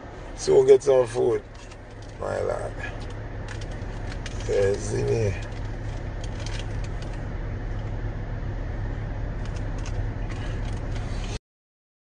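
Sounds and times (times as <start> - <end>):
car cabin rumble: 0.0 - 11.4.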